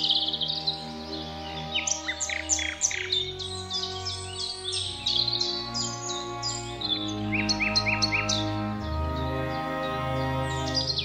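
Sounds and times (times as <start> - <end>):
music of slow held chords: 0.0 - 11.0
songbirds chirping and twittering: 0.0 - 11.0.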